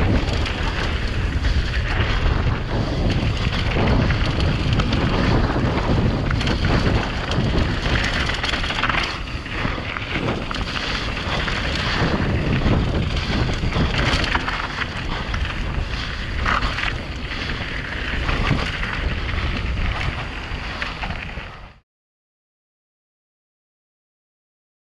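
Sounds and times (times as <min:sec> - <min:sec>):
tyres crunching on loose dirt: 0:00.0 - 0:21.6
bike rattling over bumps: 0:00.0 - 0:21.8
wind buffeting microphone: 0:00.0 - 0:21.8.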